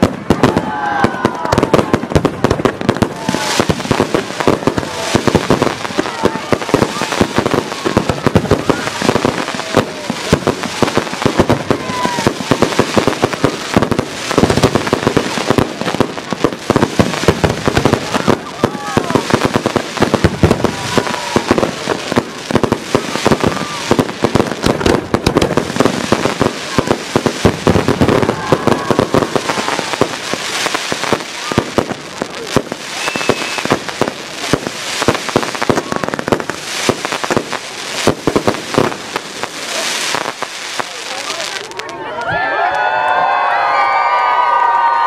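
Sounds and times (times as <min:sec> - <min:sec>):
fireworks bangs: 0:00.0 - 0:42.4.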